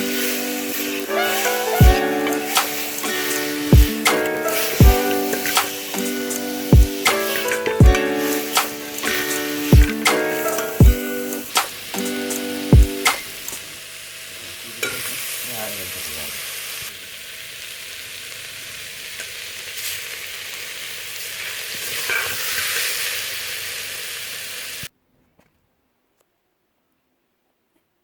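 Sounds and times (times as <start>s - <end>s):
vegetables sizzling in a pan: 0.0s - 24.9s.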